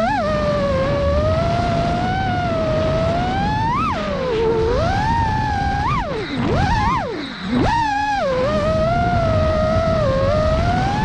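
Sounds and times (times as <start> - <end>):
drone motors whining: 0.0 - 11.0
low wind rumble: 0.0 - 11.0.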